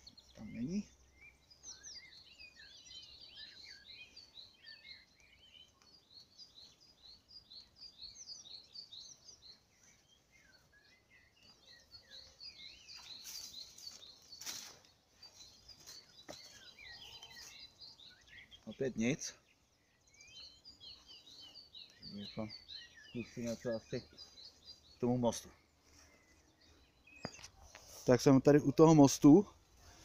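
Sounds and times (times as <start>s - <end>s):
songbird chorus chirping: 0.0s - 30.0s.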